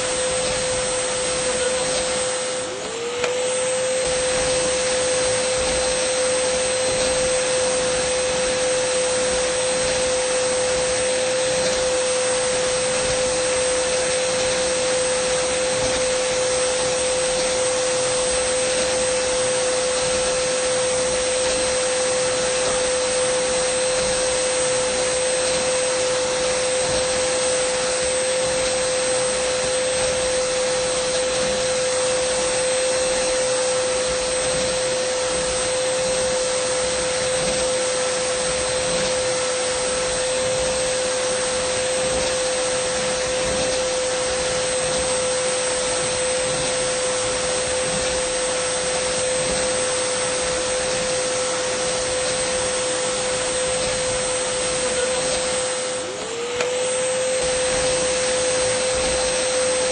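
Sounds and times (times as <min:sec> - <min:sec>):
vacuum cleaner whine: 0:00.0 - 0:59.9.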